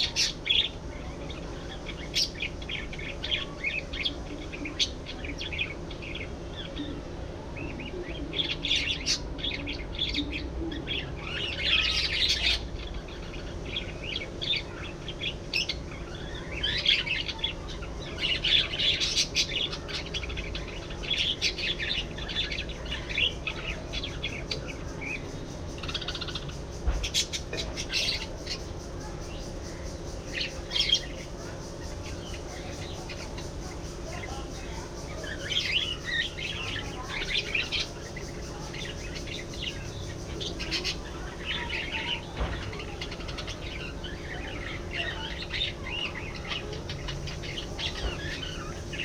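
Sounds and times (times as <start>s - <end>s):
budgerigars chattering and warbling: 0.0s - 49.0s
faint steady hum: 0.0s - 49.0s.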